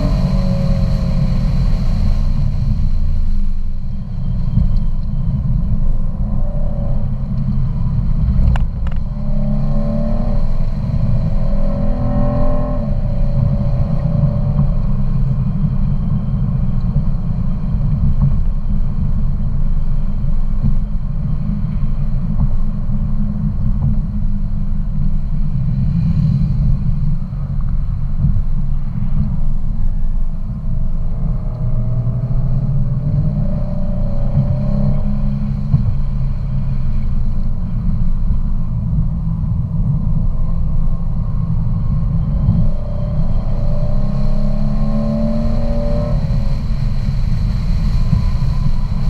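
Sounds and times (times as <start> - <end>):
car engine rumble: 0.0 - 49.0
road noise: 0.0 - 49.0.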